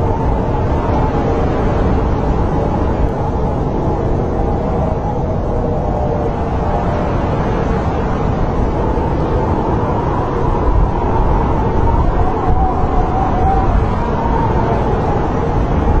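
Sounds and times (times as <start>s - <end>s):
snowstorm wind rushing: 0.0s - 16.0s.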